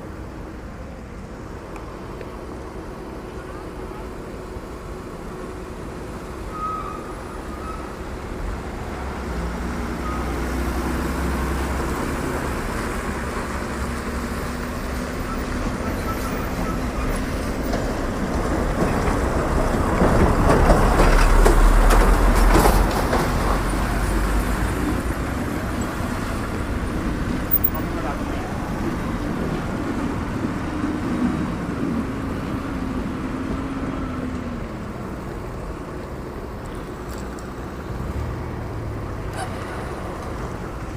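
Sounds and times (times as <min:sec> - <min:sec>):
road traffic: 0:00.0 - 0:40.9
heavy vehicle passing: 0:07.2 - 0:40.9.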